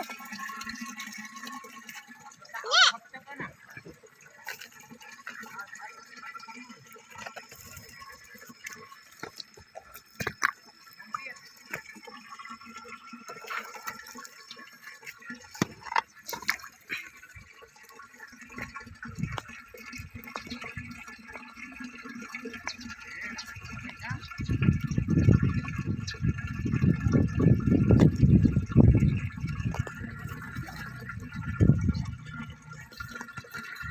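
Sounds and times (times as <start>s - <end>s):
water splashing and dripping: 0.0s - 33.9s.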